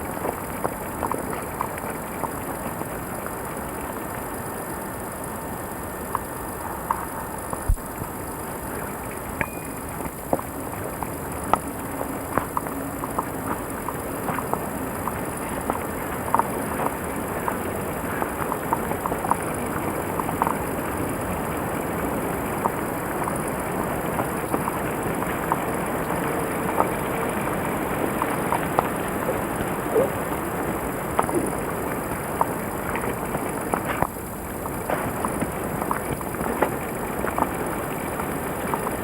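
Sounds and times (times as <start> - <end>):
steady rustling hiss: 0.0 - 39.0.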